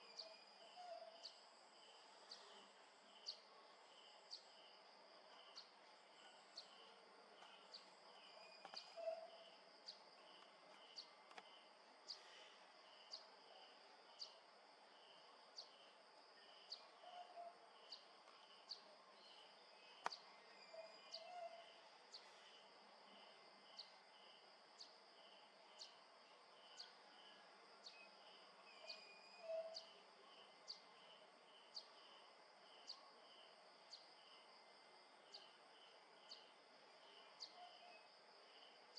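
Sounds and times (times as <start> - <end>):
rhythmic insect chirp: 0.0 - 38.9.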